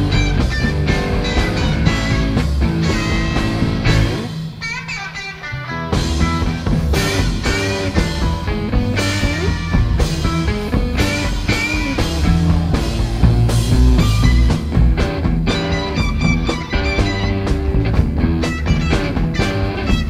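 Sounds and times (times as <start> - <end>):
drum kit beat: 0.0 - 20.0
guitar: 0.0 - 20.0
psychedelic rock band playing: 0.0 - 20.0.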